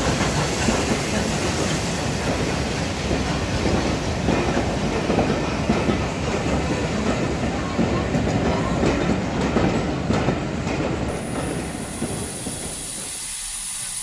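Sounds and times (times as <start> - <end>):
train coaches rumbling past: 0.0 - 14.0.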